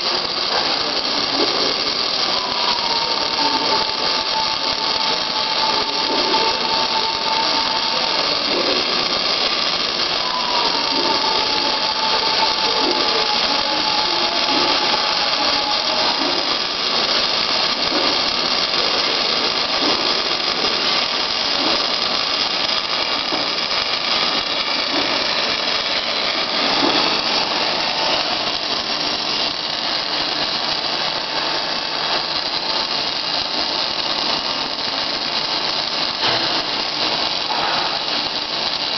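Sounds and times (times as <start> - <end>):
thin steady whine: 0.0 - 38.9
welding arc crackling hiss: 0.0 - 38.9.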